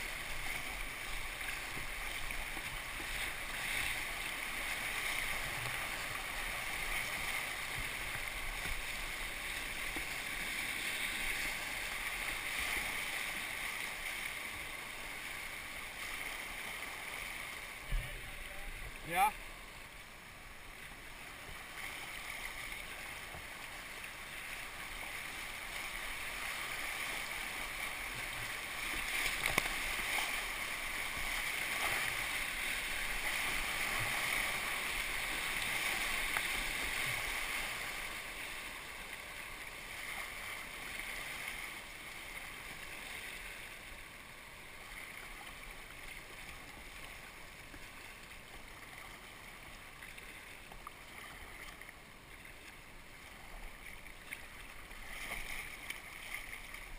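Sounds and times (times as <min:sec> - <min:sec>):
river water rushing: 0:00.0 - 0:56.9.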